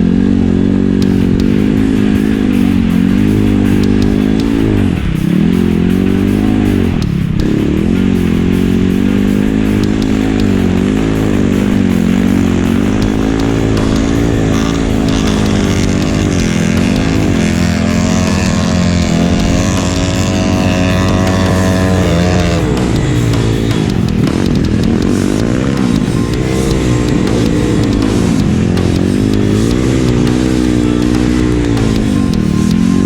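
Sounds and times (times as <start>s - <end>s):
background music: 0.0s - 33.0s
motorcycle engine revving: 0.0s - 33.0s
second higher engine note: 1.0s - 33.0s.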